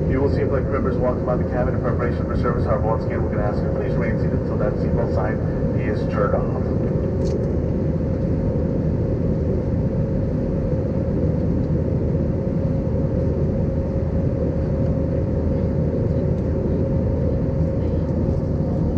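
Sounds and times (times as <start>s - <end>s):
aircraft cabin drone: 0.0s - 18.9s.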